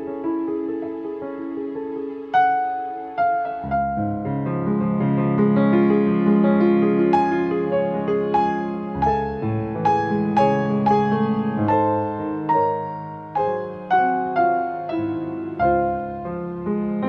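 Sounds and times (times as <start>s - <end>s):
slow gentle piano melody: 0.0s - 17.0s.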